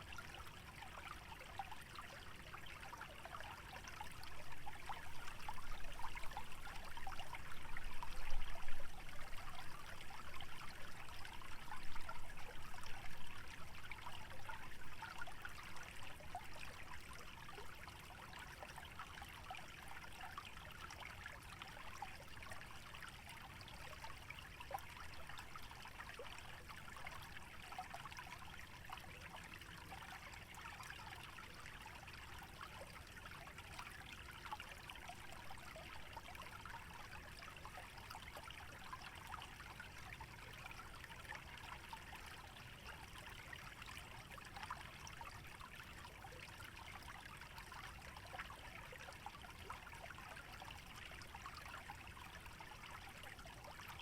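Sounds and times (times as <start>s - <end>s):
stream trickling and babbling: 0.0s - 54.0s.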